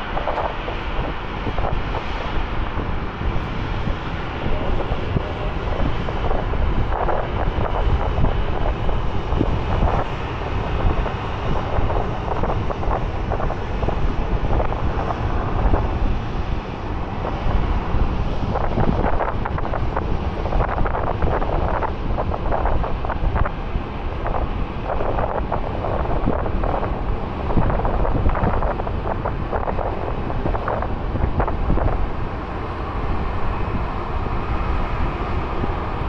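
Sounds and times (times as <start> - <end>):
jet engines rumbling: 0.0 - 36.0
wind buffeting microphone: 0.0 - 36.0.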